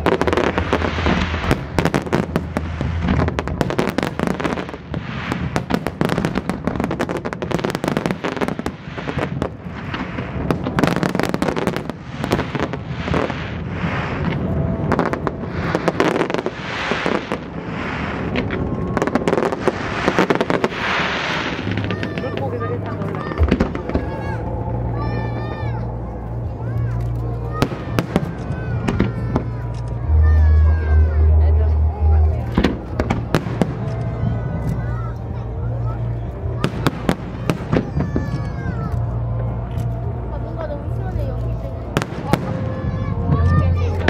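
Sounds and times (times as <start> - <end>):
fireworks bangs: 0.0 - 25.8, 26.7 - 29.8, 32.4 - 35.1, 35.8 - 39.0, 40.5 - 44.0
fireworks crackling: 0.0 - 31.1, 32.2 - 44.0.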